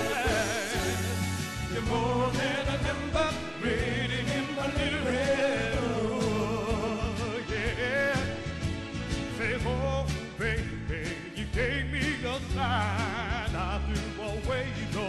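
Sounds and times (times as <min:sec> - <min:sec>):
male vocal group singing: 0:00.0 - 0:08.5, 0:09.3 - 0:15.0
bass and drums: 0:00.0 - 0:15.0.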